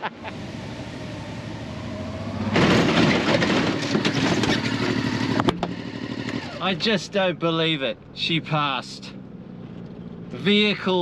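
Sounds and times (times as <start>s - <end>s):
motorcycle engine running: 0.3s - 7.1s, 8.0s - 11.0s.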